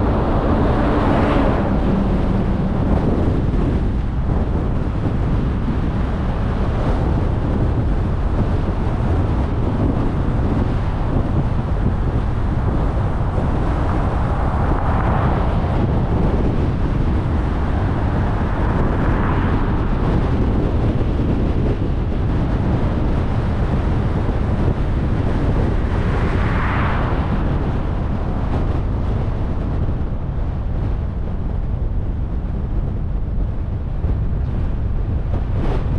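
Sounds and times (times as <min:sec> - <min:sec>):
road and wind rumble: 0:00.0 - 0:35.9.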